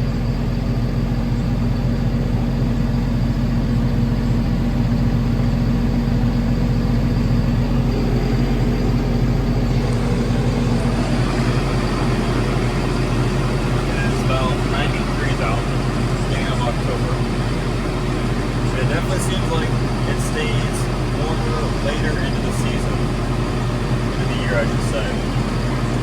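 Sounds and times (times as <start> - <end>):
harvest machine engine humming: 0.0 - 26.0.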